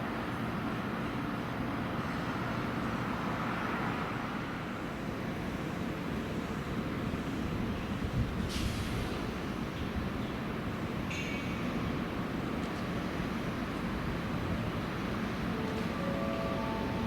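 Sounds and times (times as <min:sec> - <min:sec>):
electric train rumbling: 0:00.5 - 0:17.0.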